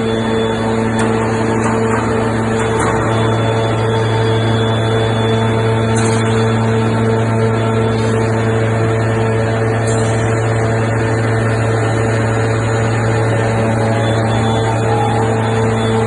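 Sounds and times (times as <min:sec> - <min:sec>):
hydraulic press machinery droning: 0:00.0 - 0:16.0.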